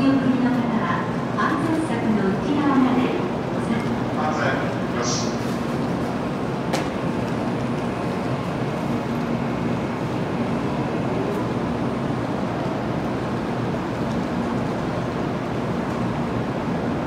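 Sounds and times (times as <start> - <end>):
train standing at platform: 0.0 - 17.0.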